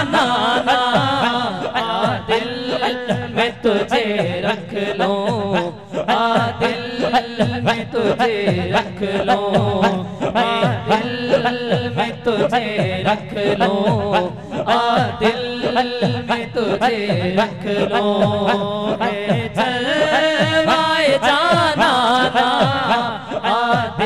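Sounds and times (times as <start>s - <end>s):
men singing through microphones: 0.0s - 24.0s.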